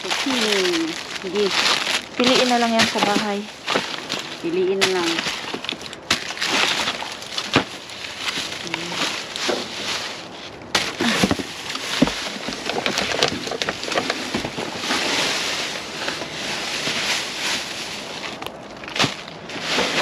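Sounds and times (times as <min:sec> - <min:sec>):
boxes and fruit knocking: 0:00.0 - 0:20.0
plastic bags crackling: 0:00.0 - 0:20.0
rustling hiss: 0:00.0 - 0:20.0.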